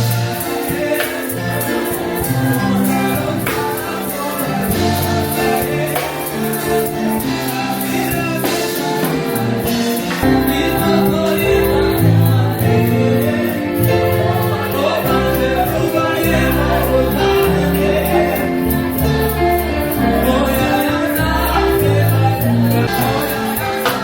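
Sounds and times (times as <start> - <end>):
gospel choir singing: 0.0 - 24.0
instrumental accompaniment with bass: 0.0 - 24.0.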